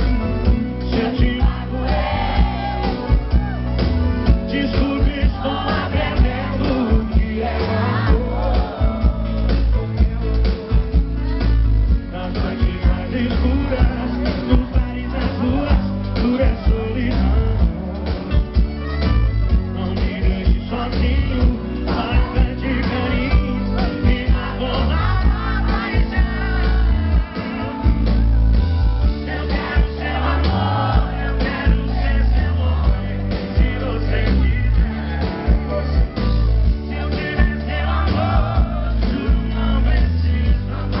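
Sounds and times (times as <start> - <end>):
man singing: 0.0 - 11.2, 11.8 - 28.1, 29.1 - 41.0
band with heavy bass beat: 0.0 - 41.0.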